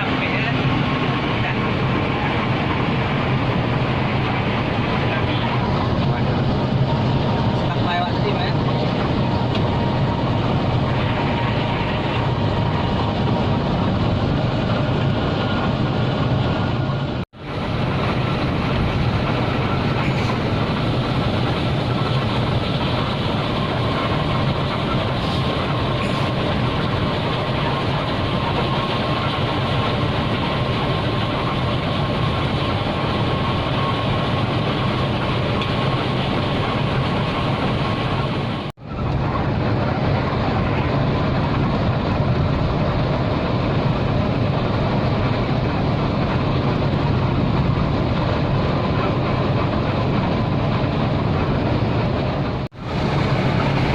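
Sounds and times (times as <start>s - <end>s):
bus road and engine noise: 0.0s - 53.9s.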